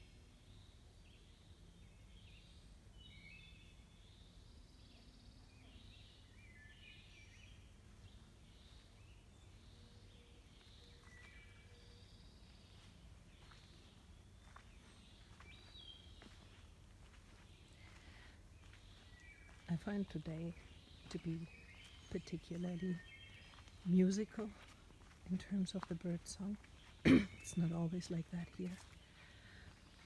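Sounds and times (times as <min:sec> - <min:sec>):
faint bird song: 0:00.0 - 0:30.0.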